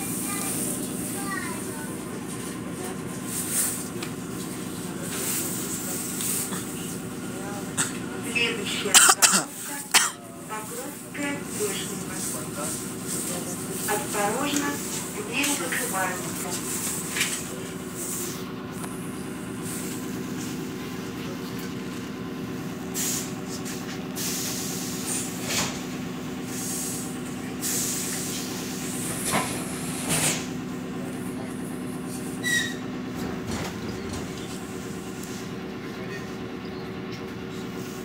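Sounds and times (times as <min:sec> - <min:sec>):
train motor hum: 0:00.0 - 0:38.0.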